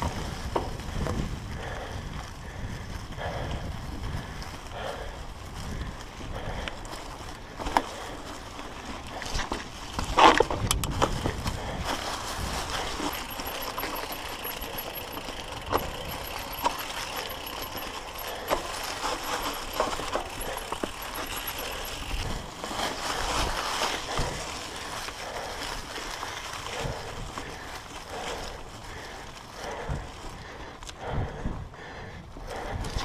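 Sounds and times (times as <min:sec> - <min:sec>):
tyres rushing through dry leaves: 0:00.0 - 0:30.4
bike rattling over bumps: 0:00.0 - 0:33.0.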